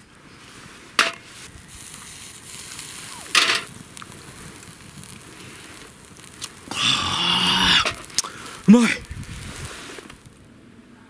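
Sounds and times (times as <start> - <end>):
fire and charcoal crackling: 0.0 - 11.0
meat sizzling on a grill: 0.4 - 10.5
sharp pops: 1.0 - 10.4.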